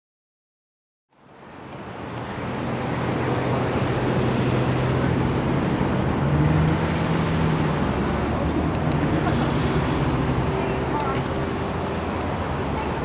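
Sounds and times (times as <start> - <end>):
road traffic passing: 1.1 - 13.0.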